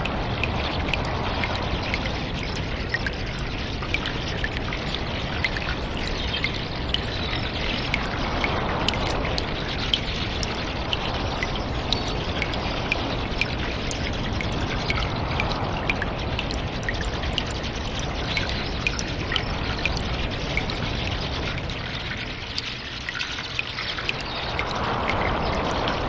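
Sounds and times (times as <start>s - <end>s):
water drips: 0.0s - 26.0s
water trickling: 0.0s - 26.0s.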